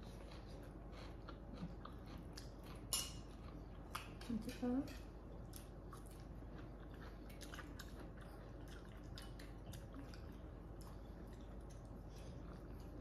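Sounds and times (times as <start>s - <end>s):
people chewing and eating: 0.0s - 13.0s.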